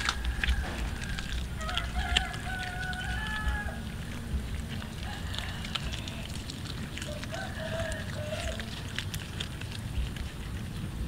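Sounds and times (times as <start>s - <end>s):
cat chewing wet crunching: 0.0s - 11.0s
long drawn-out animal call: 1.1s - 10.5s.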